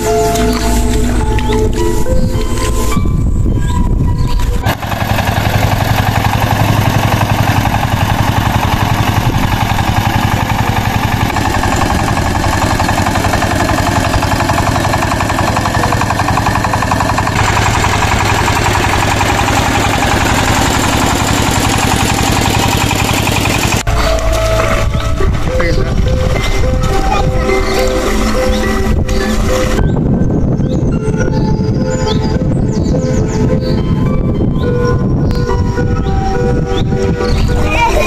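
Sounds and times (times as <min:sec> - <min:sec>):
diesel tractor engine clattering: 0:00.0 - 0:38.0.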